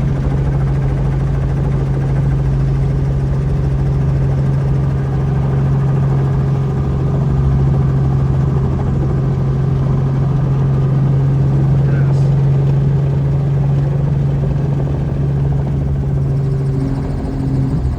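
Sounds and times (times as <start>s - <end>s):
helicopter engine and rotor: 0.0s - 17.9s.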